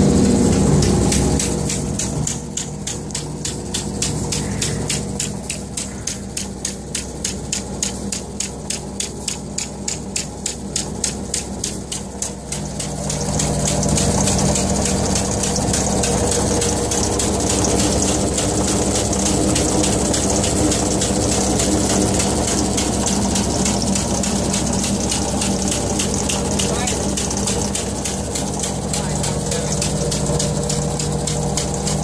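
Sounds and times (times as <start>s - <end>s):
steady rushing with low hum: 0.0s - 31.8s
machinery rhythmic clatter: 0.0s - 32.0s.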